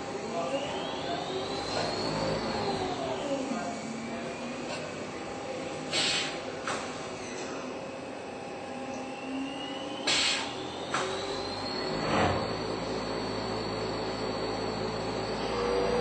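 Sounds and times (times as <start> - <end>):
lathe whine: 0.0 - 5.9, 6.9 - 16.0.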